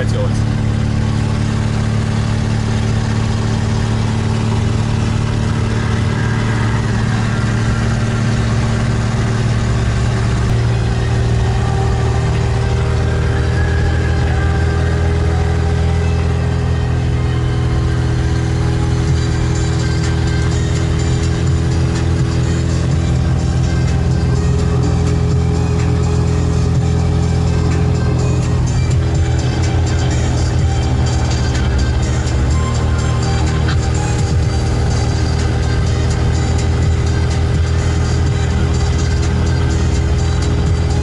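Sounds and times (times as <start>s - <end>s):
car engine and road noise: 0.0s - 41.0s.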